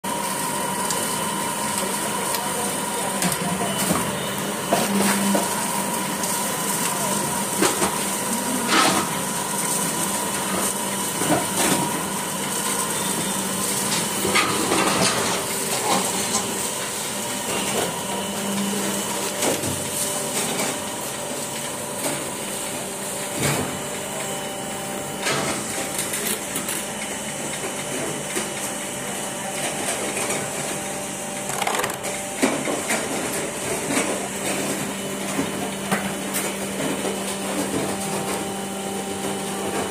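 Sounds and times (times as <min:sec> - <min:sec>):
machine motor hum: 0:00.1 - 0:39.9.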